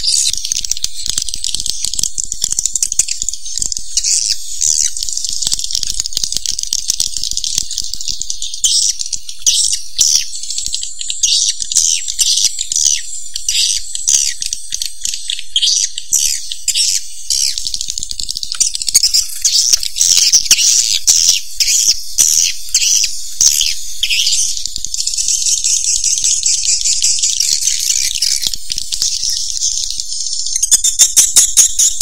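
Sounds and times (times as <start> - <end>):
swiftlet calls chattering: 0.0 - 32.0.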